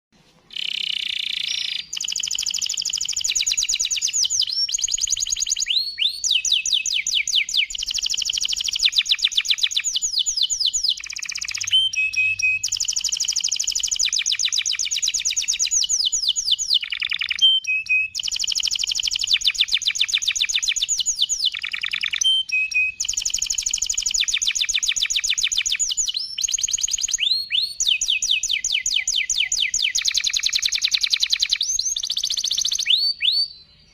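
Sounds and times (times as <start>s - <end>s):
canary singing trills: 0.5s - 33.9s.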